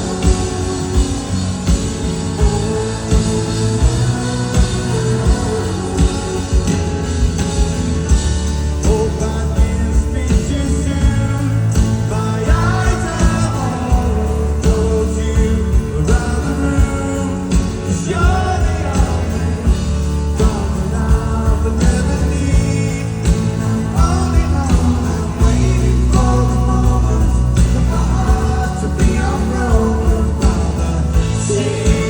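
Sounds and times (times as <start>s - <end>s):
drums steady beat: 0.0s - 32.0s
live rock band: 0.0s - 32.0s
person singing: 0.0s - 32.0s.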